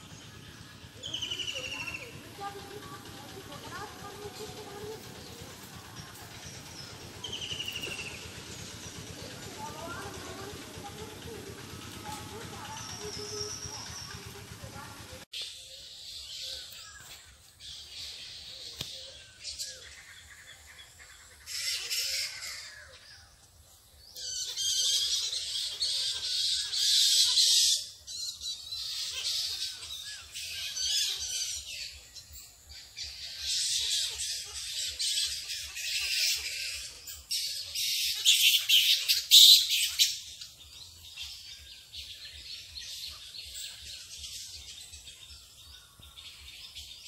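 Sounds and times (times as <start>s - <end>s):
fruit bats screeching and chattering: 0.2s - 14.9s, 17.8s - 23.1s, 24.1s - 47.0s.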